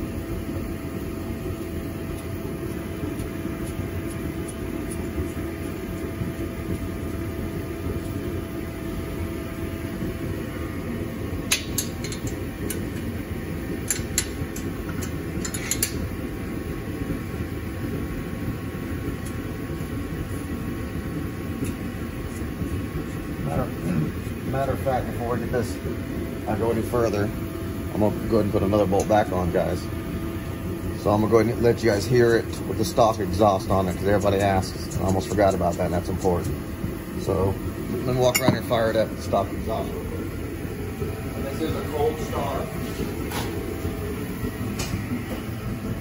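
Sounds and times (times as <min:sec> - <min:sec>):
mechanical hum: 0:00.0 - 0:46.0.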